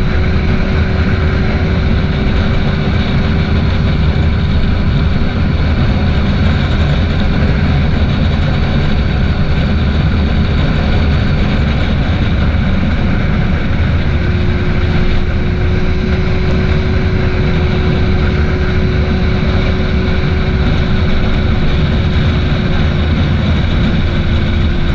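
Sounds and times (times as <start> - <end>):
motorcycle engine cruising: 0.0 - 24.9
wind rushing on microphone: 0.0 - 24.9.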